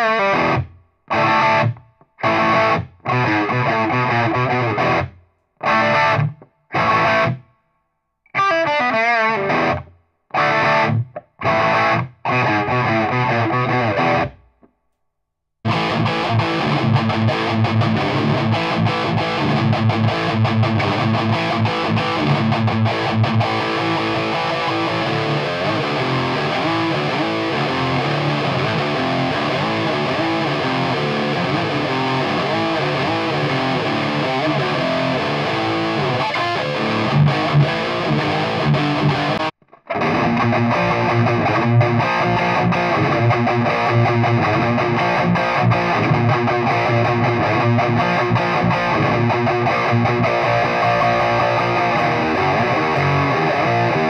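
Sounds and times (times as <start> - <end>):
distorted electric guitar riffing: 0.0 - 7.4, 8.4 - 14.4, 15.7 - 54.0.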